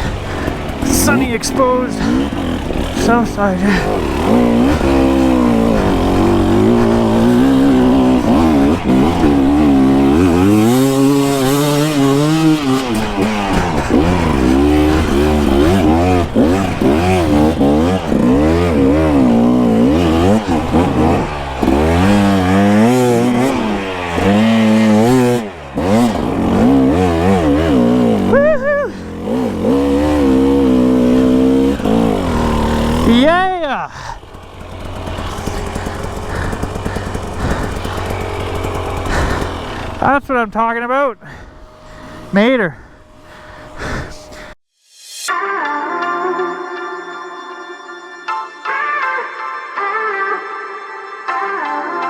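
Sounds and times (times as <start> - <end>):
dirt bike engine revving: 0.0 - 44.6.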